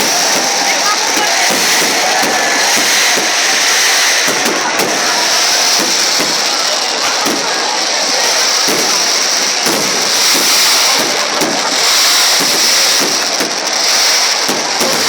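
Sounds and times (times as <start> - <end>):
fireworks crackling: 0.0 - 15.0
fireworks popping: 0.0 - 15.0
steady hiss: 0.0 - 15.0.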